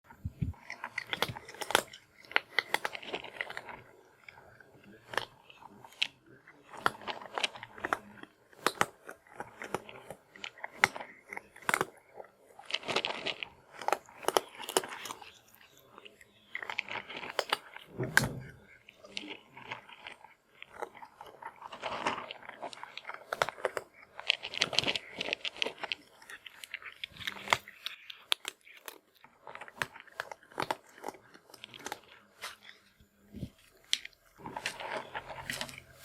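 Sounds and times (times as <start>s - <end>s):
cat crunching dry kibble: 0.1s - 36.0s.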